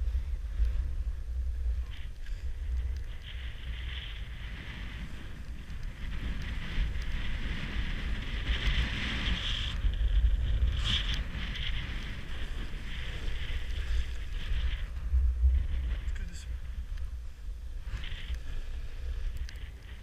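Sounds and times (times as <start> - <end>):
wind buffeting microphone: 0.0 - 20.0
skis scraping over snow: 1.6 - 20.0.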